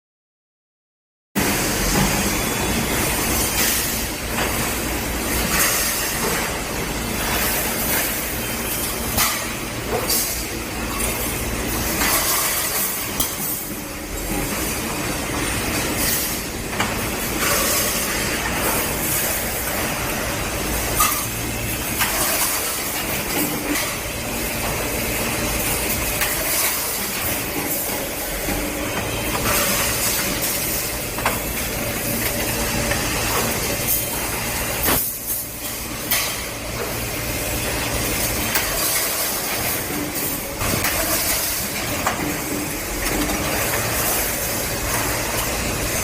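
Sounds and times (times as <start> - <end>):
machinery hum and hiss: 1.4 - 46.0.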